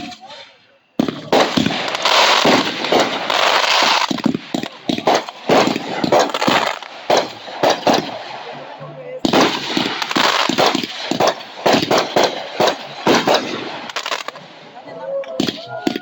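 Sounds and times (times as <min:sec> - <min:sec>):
fireworks bursting: 0:00.0 - 0:16.0
fireworks crackling: 0:00.0 - 0:16.0.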